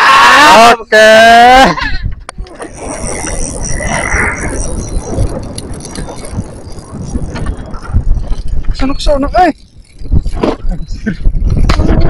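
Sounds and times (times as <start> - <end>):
wind buffeting microphone: 1.5 - 12.0.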